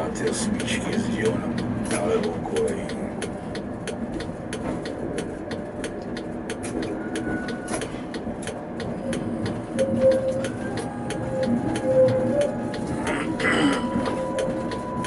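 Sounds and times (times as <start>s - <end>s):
sharp clicks of track junctions: 0.0s - 15.0s
tram rumbling: 0.0s - 15.0s.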